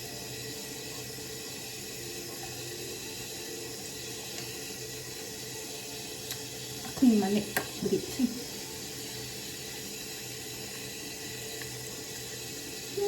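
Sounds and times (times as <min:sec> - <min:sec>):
tap running: 0:00.0 - 0:13.0.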